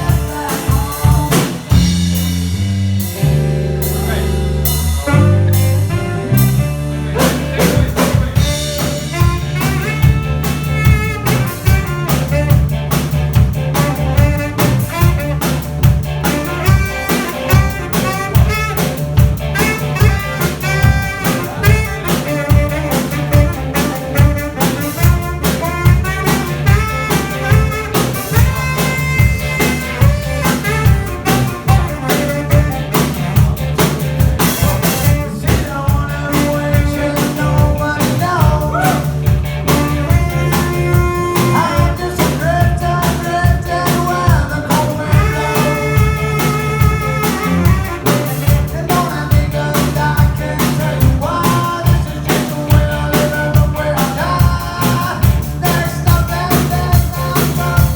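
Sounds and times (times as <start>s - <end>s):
bass line: 0.0s - 57.9s
drum kit beat: 0.0s - 57.9s.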